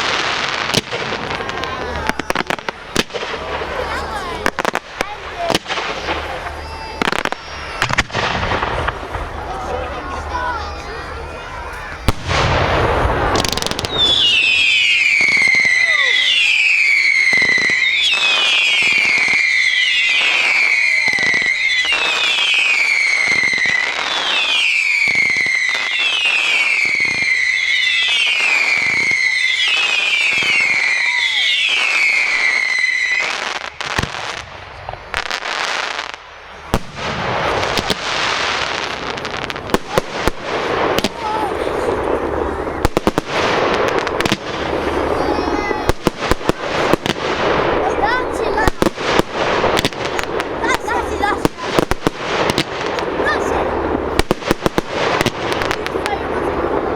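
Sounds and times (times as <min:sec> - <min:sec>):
fireworks bangs: 0:00.0 - 0:56.9
fireworks crackling: 0:00.0 - 0:56.9
fireworks whistling: 0:00.0 - 0:56.9.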